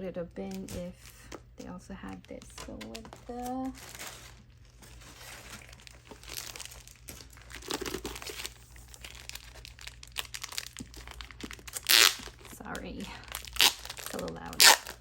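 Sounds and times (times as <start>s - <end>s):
crinkly packaging being unwrapped: 0.5s - 15.0s.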